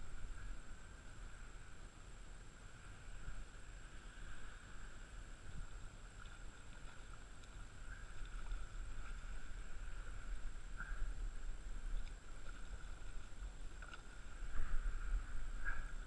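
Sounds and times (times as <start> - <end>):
muffled wind rumble: 0.0 - 16.0
water lapping: 0.0 - 16.0.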